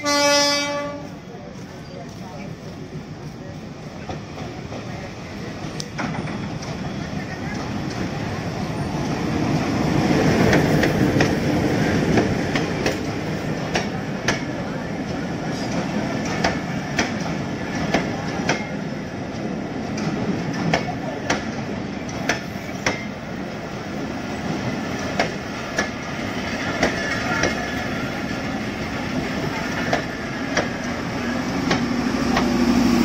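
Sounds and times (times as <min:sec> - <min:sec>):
train coaches rumbling: 0:00.0 - 0:33.0.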